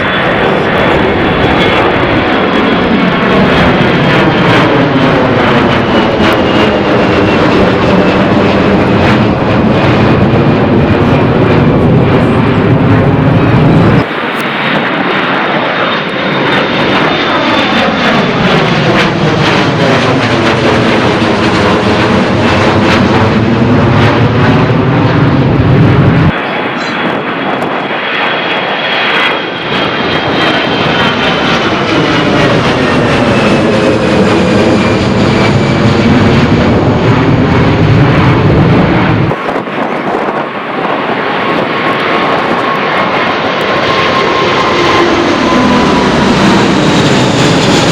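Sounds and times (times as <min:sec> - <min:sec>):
jet airliner passing overhead: 0:00.0 - 0:47.9.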